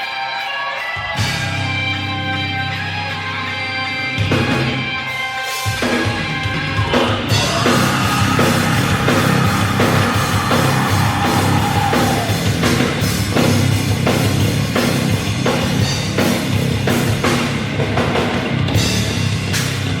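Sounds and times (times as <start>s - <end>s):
rock band playing heavy rock: 0.0s - 20.0s.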